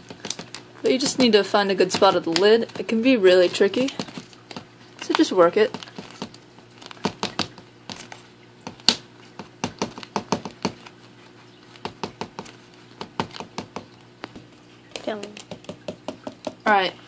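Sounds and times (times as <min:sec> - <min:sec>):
fingers tapping plastic cup: 0:00.0 - 0:11.0, 0:11.7 - 0:16.8.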